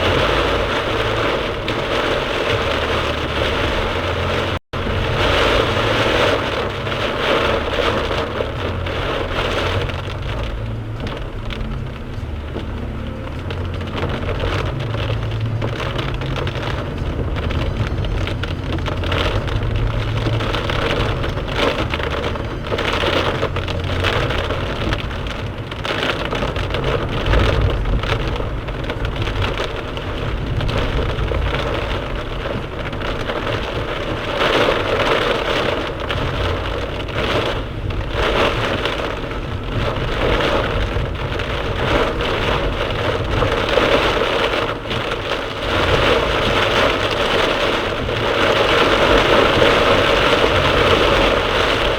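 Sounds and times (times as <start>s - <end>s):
heavy rain drumming on car roof: 0.0s - 51.9s
road and engine rumble: 0.0s - 51.9s.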